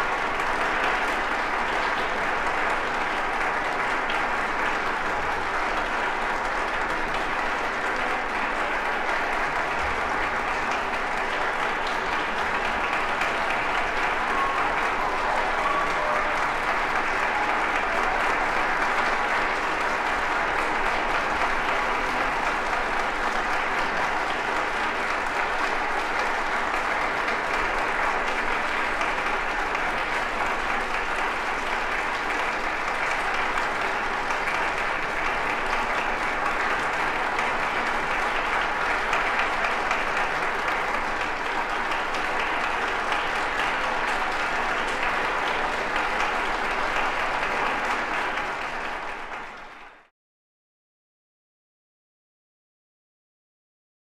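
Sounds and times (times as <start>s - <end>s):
audience applauding: 0.0s - 50.1s.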